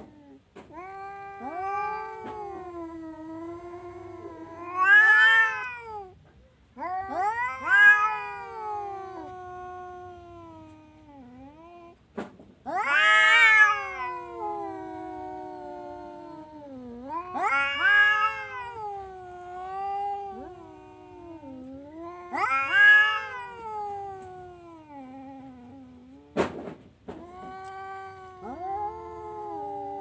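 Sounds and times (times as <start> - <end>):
cat yowling: 0.0 - 6.2, 6.8 - 12.0, 12.6 - 26.4, 27.1 - 30.0.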